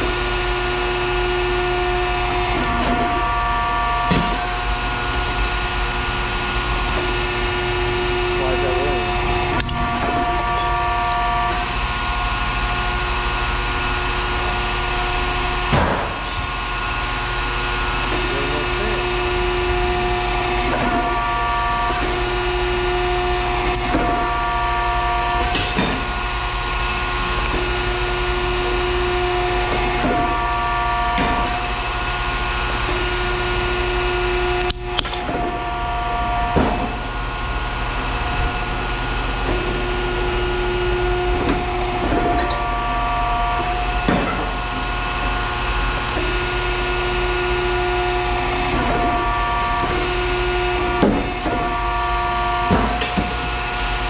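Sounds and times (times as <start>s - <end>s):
machinery humming: 0.0s - 54.0s
whining tone: 0.0s - 54.0s.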